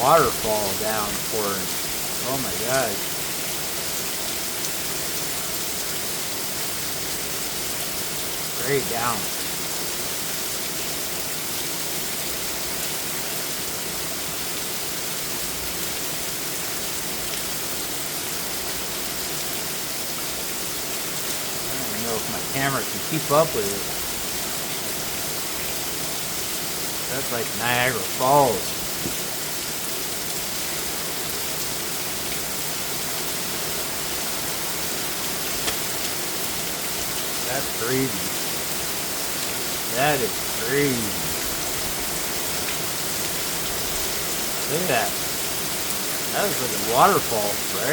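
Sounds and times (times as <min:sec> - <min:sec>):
torrential rain pouring: 0:00.0 - 0:47.9
water streaming off roof: 0:00.0 - 0:47.9.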